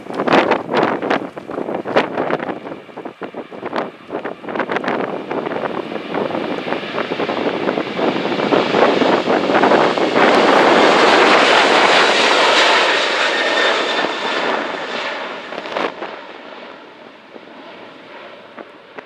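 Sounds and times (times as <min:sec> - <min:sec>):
aircraft passing close by: 0:00.0 - 0:19.0.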